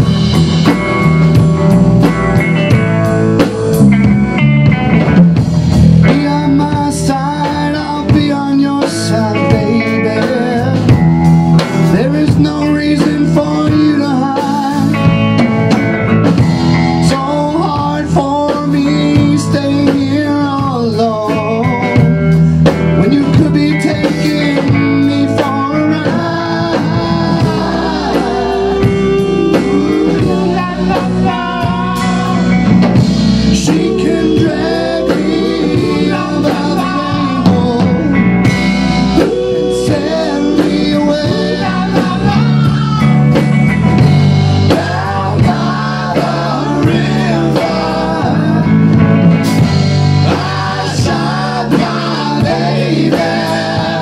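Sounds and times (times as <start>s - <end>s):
drum kit: 0.0s - 54.0s
electric bass: 0.0s - 54.0s
electric guitar: 0.0s - 54.0s
man singing: 6.0s - 15.3s, 16.8s - 54.0s.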